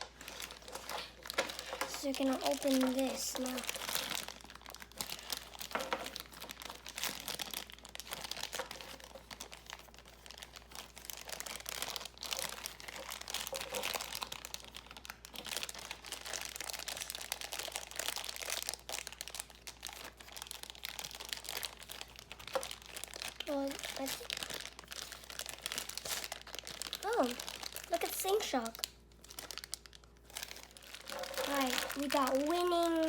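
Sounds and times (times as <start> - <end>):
plastic packaging crinkling: 0.0 - 33.0.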